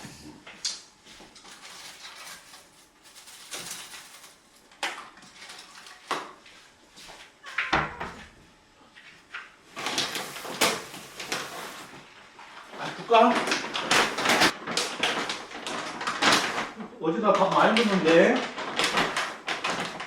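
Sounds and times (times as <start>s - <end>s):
rustling and handling noises: 0.0s - 8.3s, 8.9s - 20.0s.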